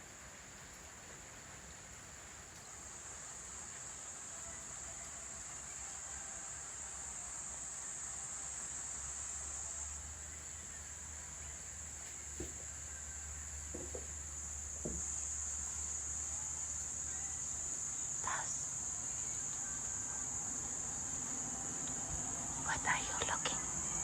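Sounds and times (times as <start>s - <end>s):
insect chorus droning: 0.0s - 24.0s.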